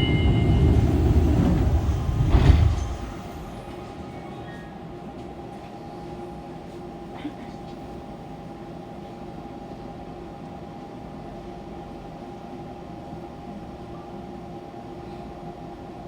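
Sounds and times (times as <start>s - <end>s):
train electrical hum with tones: 0.0s - 16.0s.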